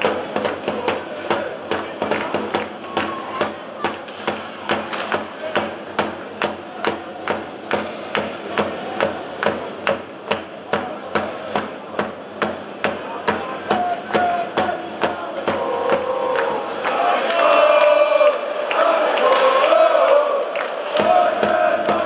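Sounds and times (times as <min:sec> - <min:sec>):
crowd noise: 0:00.0 - 0:22.0.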